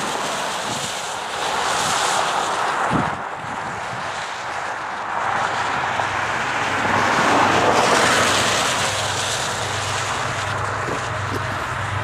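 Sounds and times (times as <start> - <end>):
diesel locomotive engine drone: 0.0 - 12.0
train rushing noise: 0.0 - 12.0.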